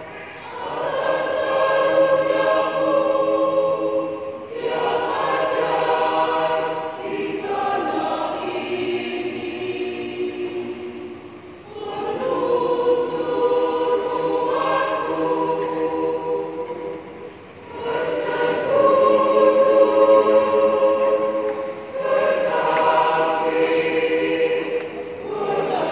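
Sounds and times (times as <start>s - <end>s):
choir singing sustained chords: 0.0s - 25.9s.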